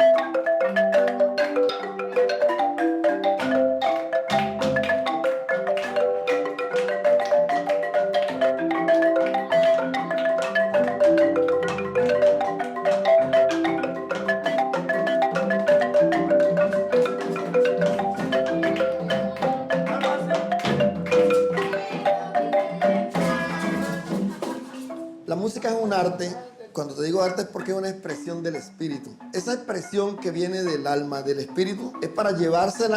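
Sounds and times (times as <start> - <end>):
marimba melody: 0.0 - 32.9.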